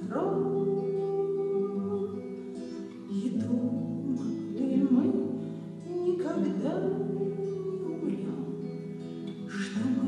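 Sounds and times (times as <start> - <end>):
classical guitar playing: 0.0 - 10.0
woman singing: 0.0 - 10.0.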